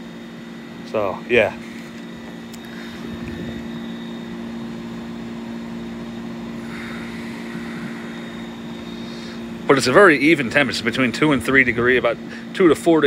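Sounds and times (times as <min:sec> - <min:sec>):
air conditioner compressor hum: 0:00.0 - 0:13.0
fan air rushing: 0:00.0 - 0:13.0.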